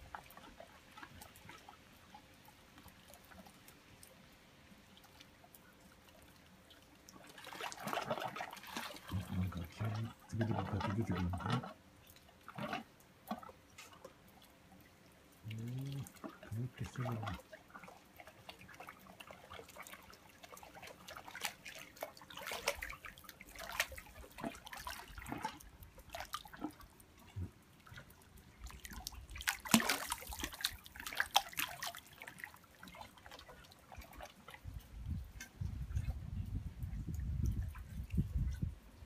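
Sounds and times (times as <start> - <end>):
small water splashes: 0.0 - 39.0
water sloshing in a footbath: 4.9 - 36.3.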